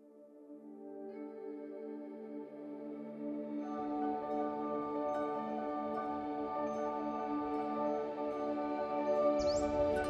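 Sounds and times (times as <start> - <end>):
ambient music of held chords: 0.0 - 10.0.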